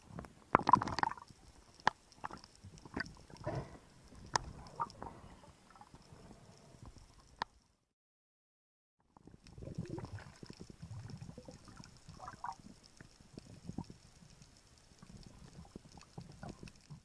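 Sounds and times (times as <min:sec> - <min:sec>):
low underwater knocks and clicks: 0:00.0 - 0:07.6, 0:09.2 - 0:17.0.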